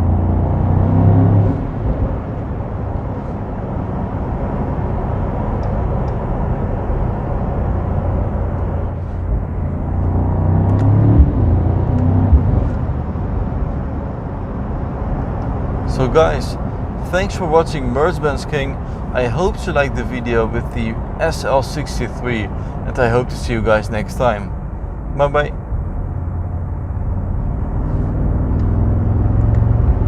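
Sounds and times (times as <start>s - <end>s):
tyre and road noise: 0.0s - 30.0s
car engine running: 1.5s - 30.0s.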